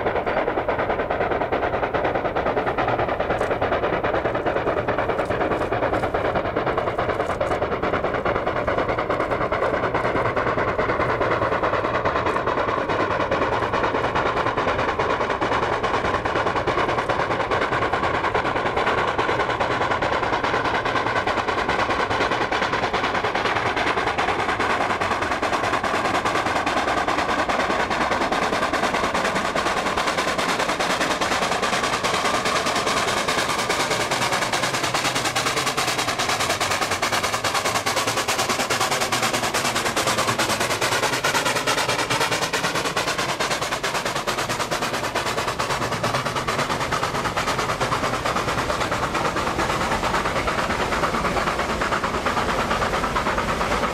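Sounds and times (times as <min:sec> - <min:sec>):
steam locomotive chuffing: 0:00.0 - 0:53.9.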